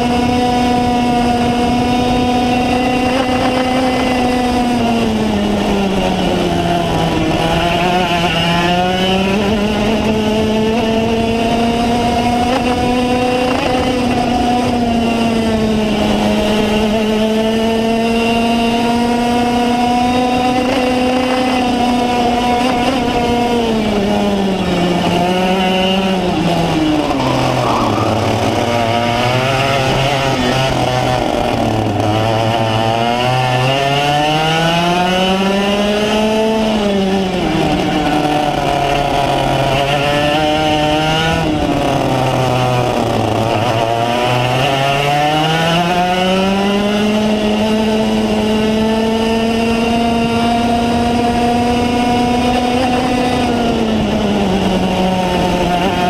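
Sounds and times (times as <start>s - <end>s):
kart engine at high revs: 0.0s - 56.0s.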